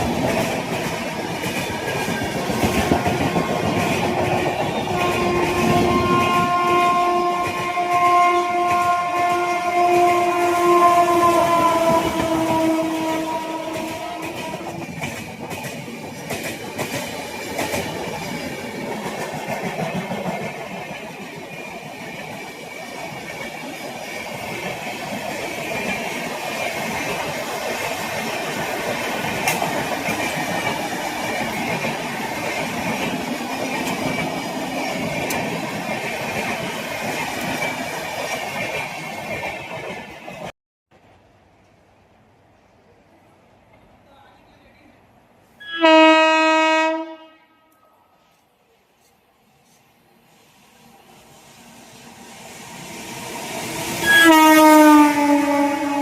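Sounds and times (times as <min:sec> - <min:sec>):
train wheels rumbling on rails: 0:00.0 - 0:41.9, 0:49.0 - 0:56.0.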